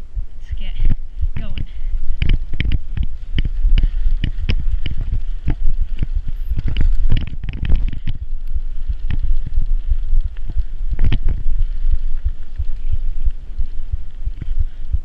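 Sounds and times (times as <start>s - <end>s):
wind and handling noise: 0.0s - 15.0s
bicycle knocks and rattles: 0.8s - 15.0s.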